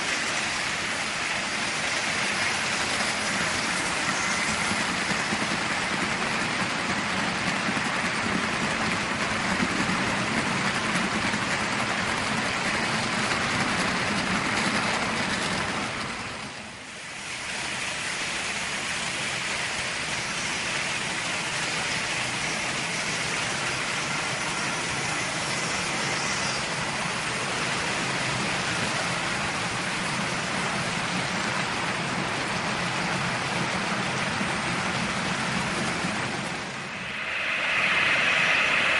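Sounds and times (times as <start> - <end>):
model train wheels rattling on rails: 0.0 - 36.8.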